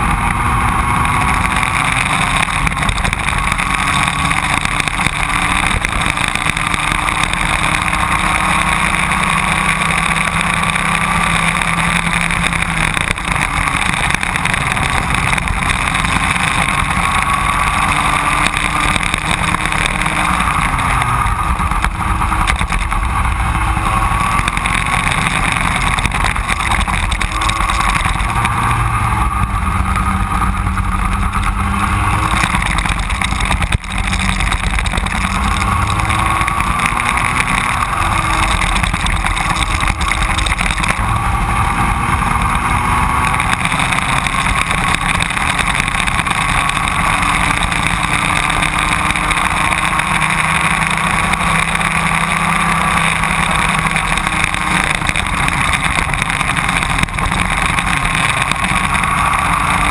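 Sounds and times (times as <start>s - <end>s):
go-kart engines racing: 0.0s - 59.9s.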